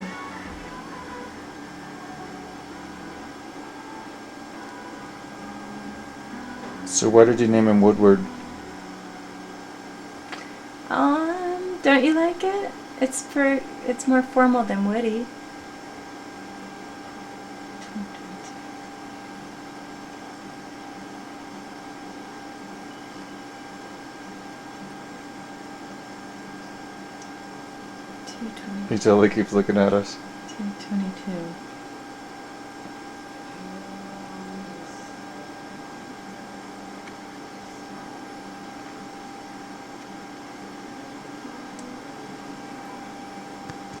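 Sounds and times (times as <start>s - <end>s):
background hum and hiss: 0.0s - 44.0s
faint constant whine: 0.0s - 44.0s.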